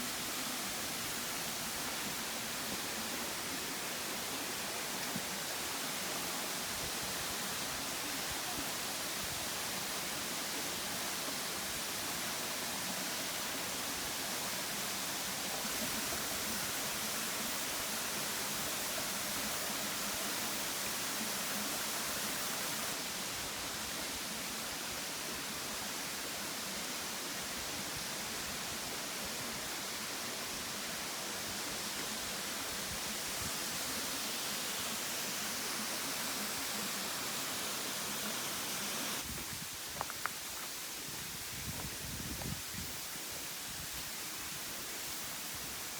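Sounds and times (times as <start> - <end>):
rushing waterfall: 0.0 - 45.9.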